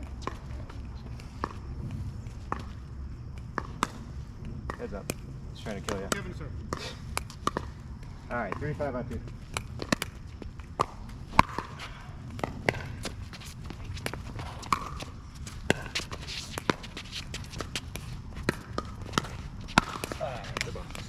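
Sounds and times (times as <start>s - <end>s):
footsteps on hard court: 0.1s - 5.0s, 8.4s - 21.0s.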